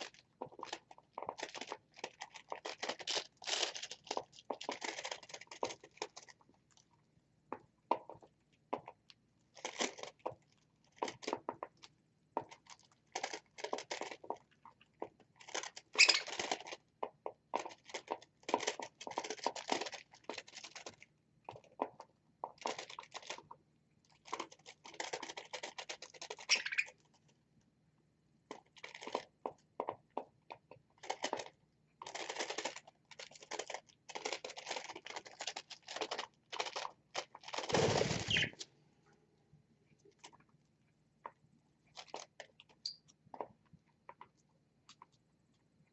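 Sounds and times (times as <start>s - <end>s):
birds crunching and pecking seeds: 0.0s - 7.0s, 8.7s - 27.4s, 28.5s - 38.7s, 41.9s - 45.2s.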